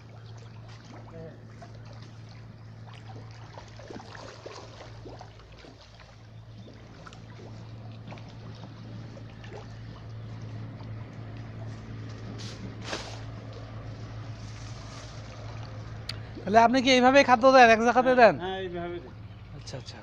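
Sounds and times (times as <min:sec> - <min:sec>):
water splashing from feeding fish: 0:00.0 - 0:16.7
steady low hum: 0:00.0 - 0:20.0.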